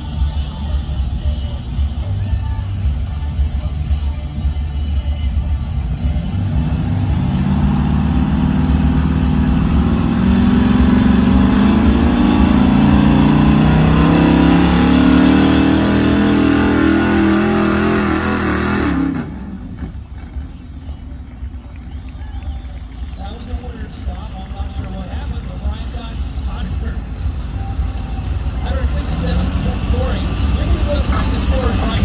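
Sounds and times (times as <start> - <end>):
pickup engine at full throttle: 5.8 - 32.0.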